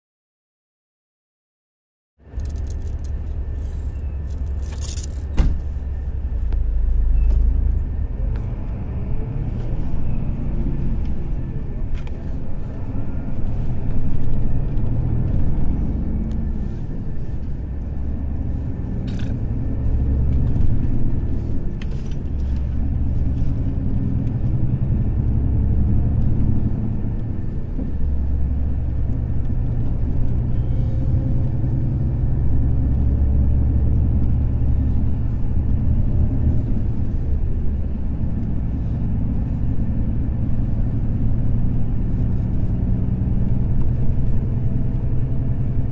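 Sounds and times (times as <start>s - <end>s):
coach diesel engine rumble: 2.2s - 45.9s.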